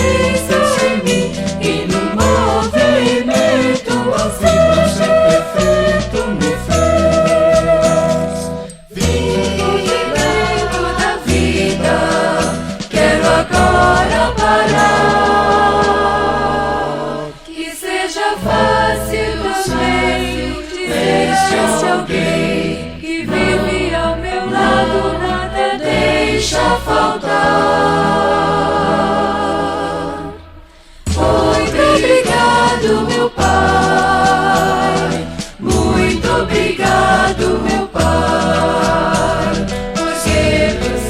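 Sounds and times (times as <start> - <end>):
instrumental backing with bass line: 0.0 - 17.4, 18.4 - 41.0
vocal group singing gospel: 0.0 - 41.0.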